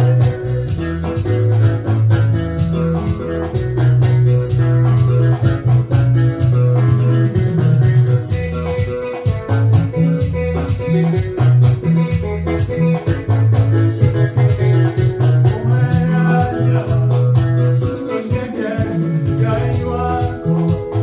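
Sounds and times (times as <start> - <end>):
bass guitar: 0.0 - 21.0
drum kit cymbal beat: 0.0 - 21.0
guitar: 0.0 - 21.0.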